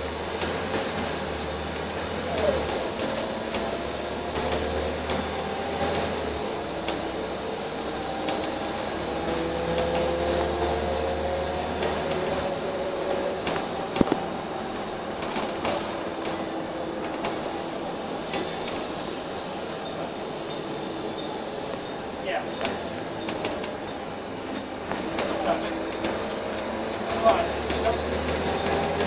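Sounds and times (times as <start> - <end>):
bus body rattling: 0.0 - 29.0
bus drivetrain whine: 0.0 - 29.0
low engine rumble: 0.0 - 29.0.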